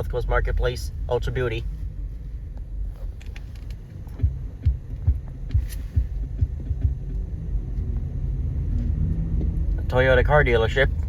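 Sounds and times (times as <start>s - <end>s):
car driving rumble: 0.0s - 11.0s
dull low thumps: 0.4s - 11.0s.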